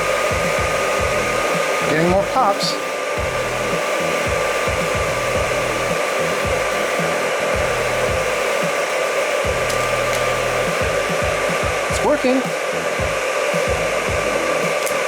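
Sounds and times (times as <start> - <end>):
hair dryer running: 0.0 - 15.0
popcorn popping: 0.0 - 15.0.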